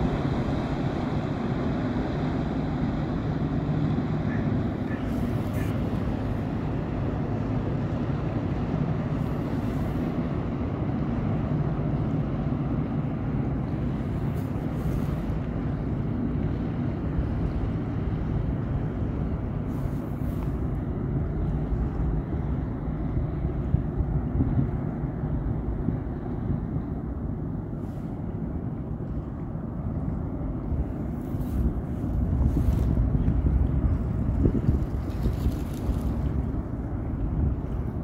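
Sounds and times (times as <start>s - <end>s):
barge diesel engine drone: 0.0s - 34.7s
wind buffeting microphone: 0.0s - 38.0s.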